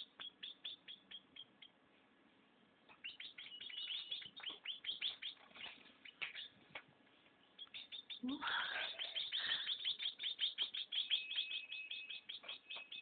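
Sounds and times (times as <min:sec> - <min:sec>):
baby birds begging chirps: 0:00.0 - 0:01.8, 0:02.9 - 0:13.0.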